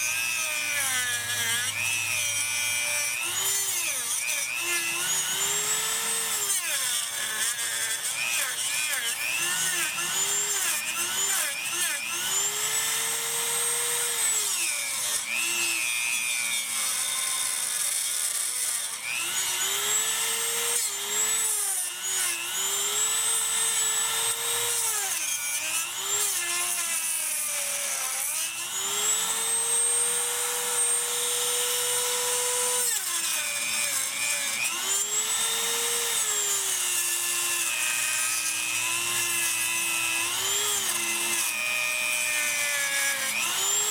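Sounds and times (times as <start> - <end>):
rotary tool cutting plastic: 0.0 - 43.9.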